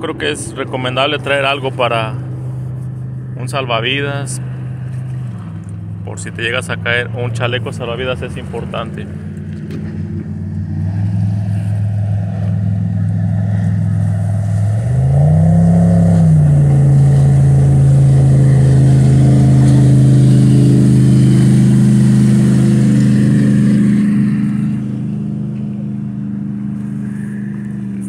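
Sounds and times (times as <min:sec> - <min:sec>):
motorboat engine passing: 0:00.0 - 0:28.0.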